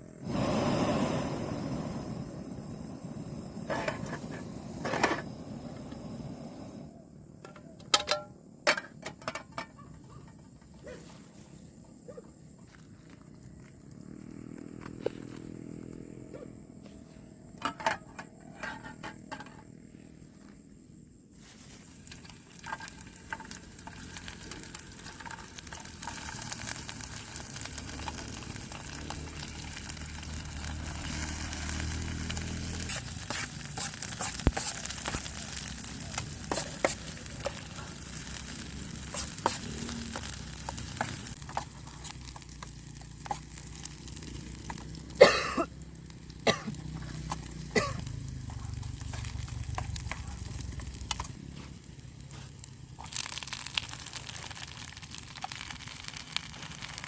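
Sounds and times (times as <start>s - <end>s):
sizzling with crackles: 7.4s - 57.0s.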